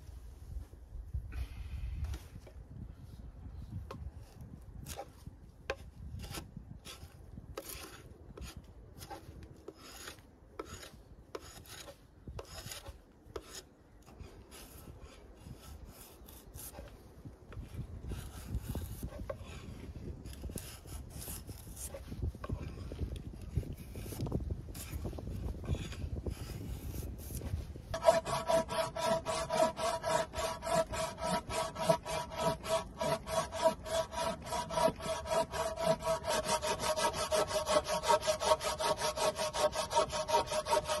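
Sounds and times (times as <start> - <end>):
drawknife scraping bark off log: 4.3 - 41.0.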